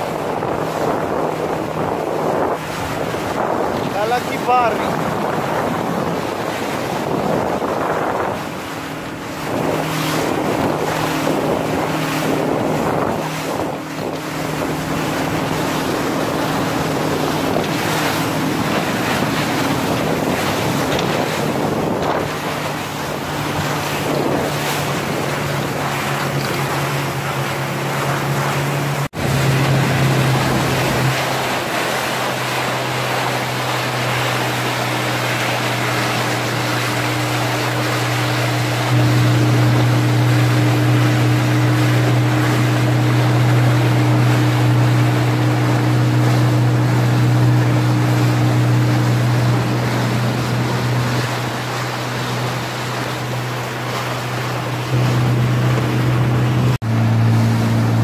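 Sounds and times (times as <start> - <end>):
motorboat engine running: 0.0 - 58.0
sea water washing along hull: 0.0 - 58.0
wind buffeting microphone: 0.0 - 58.0.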